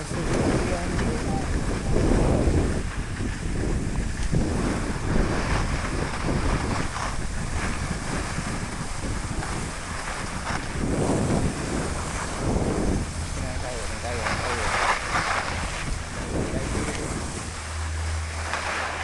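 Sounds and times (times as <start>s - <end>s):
skis scraping over snow: 0.0s - 19.0s
wind rushing over microphone: 0.0s - 19.0s.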